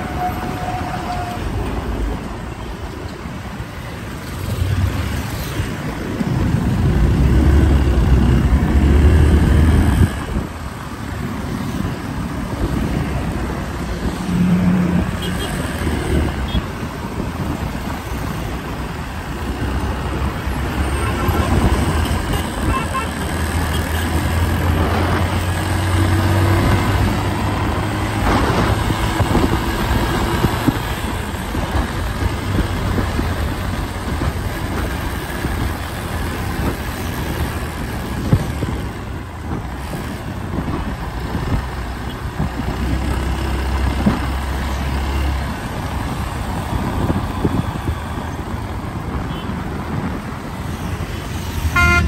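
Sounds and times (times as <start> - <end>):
bus engines: 0.0 - 52.0
car engines: 0.0 - 52.0
motorcycle engines: 0.0 - 52.0.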